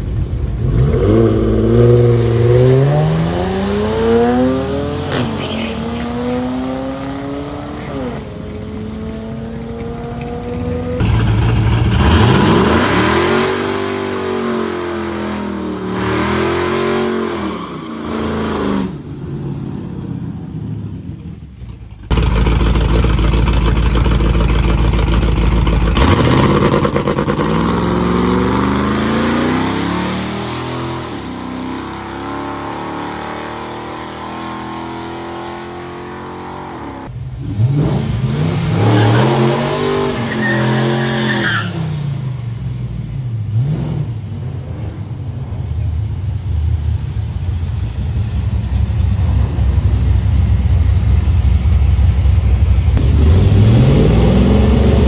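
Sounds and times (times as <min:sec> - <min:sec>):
car engines revving hard: 0:00.0 - 0:21.4, 0:22.1 - 0:46.5, 0:48.4 - 0:55.0.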